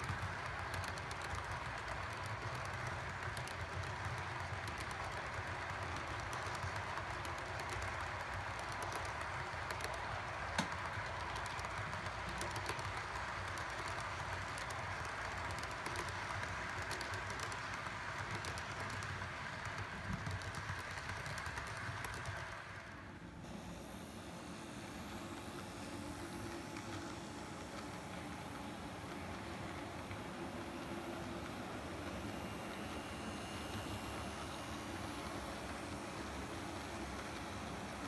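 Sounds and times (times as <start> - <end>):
model train cars rolling on track: 0.0 - 38.0
wheels clicking on rails: 0.0 - 38.0.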